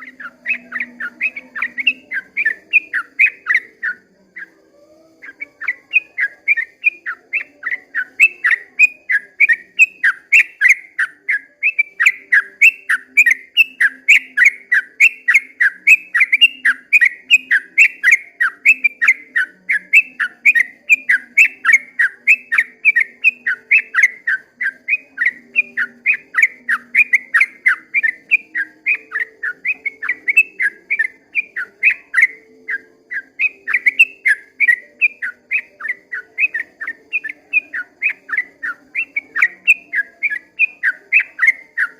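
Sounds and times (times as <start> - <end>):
bulbul chirping song: 0.0 - 41.9.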